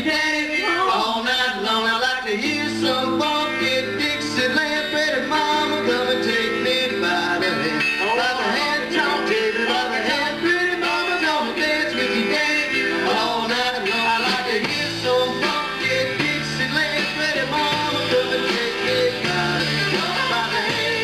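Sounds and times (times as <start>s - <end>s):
acoustic guitar: 0.0s - 21.0s
bass guitar: 0.0s - 21.0s
drums: 0.0s - 21.0s
electric guitar: 0.0s - 21.0s.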